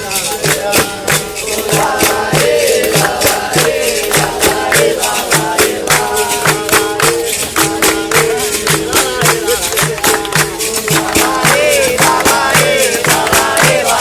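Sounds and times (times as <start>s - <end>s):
berimbau and percussion: 0.0s - 14.0s
voices singing together: 0.0s - 14.0s.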